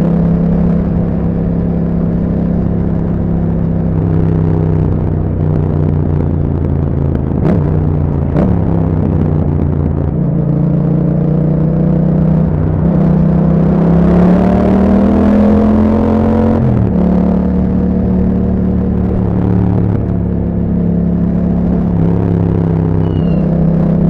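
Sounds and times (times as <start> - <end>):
motorcycle engine running: 0.0 - 14.5, 15.5 - 24.0.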